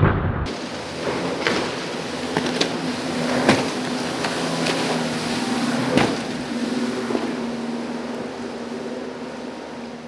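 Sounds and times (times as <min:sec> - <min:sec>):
boat engine drone: 0:00.4 - 0:10.0
hull slapping on waves: 0:00.5 - 0:09.9.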